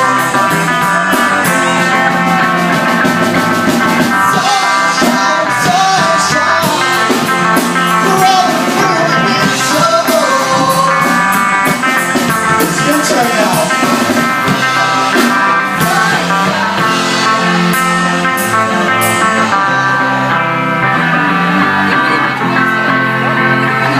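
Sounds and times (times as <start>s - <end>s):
guitar-led rock music: 0.0s - 23.9s.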